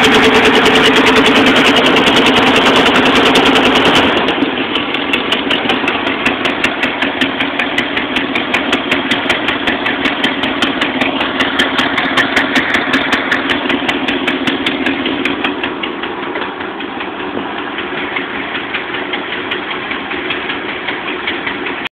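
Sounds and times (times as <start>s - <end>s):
engine idling with popping: 0.0s - 21.9s.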